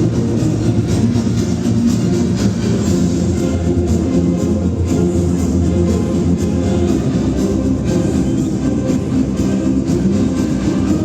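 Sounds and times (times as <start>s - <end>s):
instrumental music over loudspeakers: 0.0s - 11.0s.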